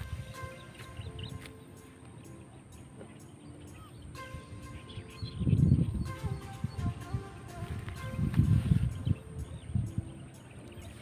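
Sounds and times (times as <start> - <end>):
high chirps: 0.0 - 11.0
quiet background music: 0.0 - 11.0.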